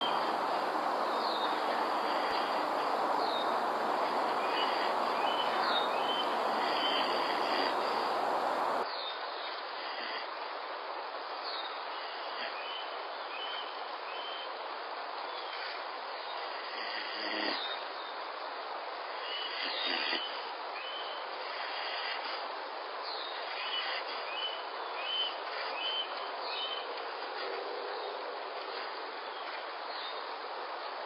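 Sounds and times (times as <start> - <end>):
hiss-like background noise: 0.0 - 31.0.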